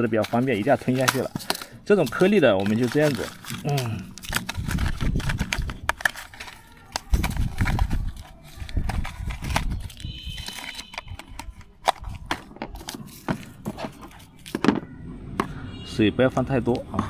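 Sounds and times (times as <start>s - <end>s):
handling clicks and knocks: 0.0s - 15.6s.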